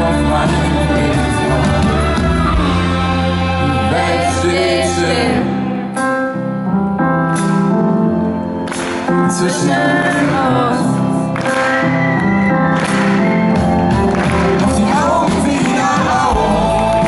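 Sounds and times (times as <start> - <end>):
live band music with singing: 0.0 - 17.0.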